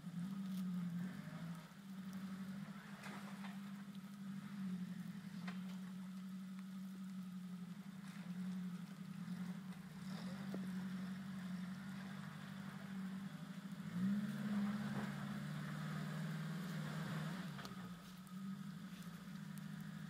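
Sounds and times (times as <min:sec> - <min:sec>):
off-road vehicle engine at low revs: 0:00.0 - 0:20.0.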